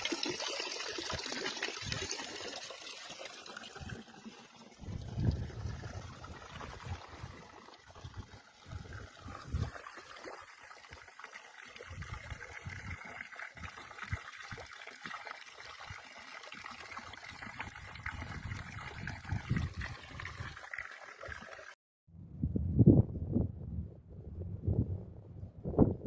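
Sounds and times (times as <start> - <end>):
stream trickling and gurgling: 0.0 - 21.8.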